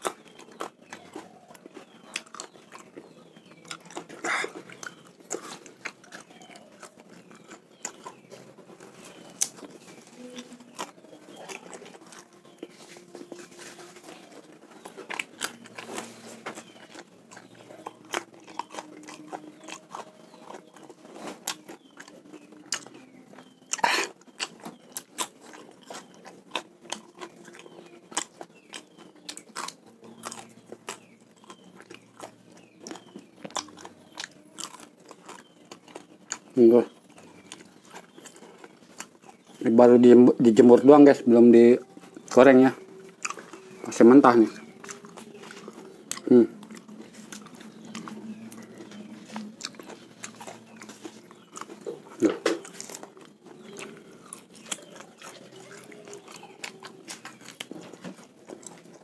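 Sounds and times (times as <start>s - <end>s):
chewing crunchy fish: 0.0s - 59.0s.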